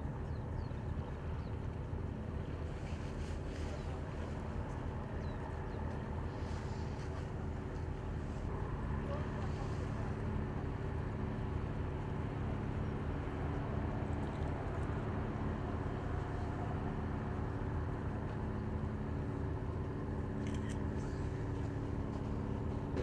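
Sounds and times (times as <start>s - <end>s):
engine droning: 0.1s - 23.0s.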